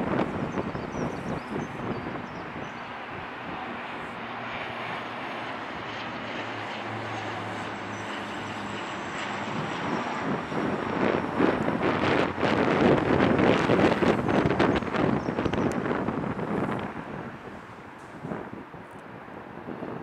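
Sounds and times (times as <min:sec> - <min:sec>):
turboprop engines droning: 0:00.0 - 0:20.0
wind buffeting microphone: 0:00.0 - 0:20.0.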